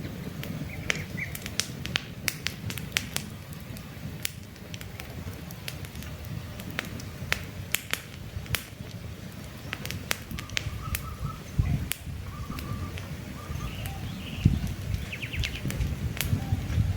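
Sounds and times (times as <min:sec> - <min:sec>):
campfire crackling and popping: 0:00.0 - 0:16.9
low rumble of flames: 0:00.0 - 0:16.9.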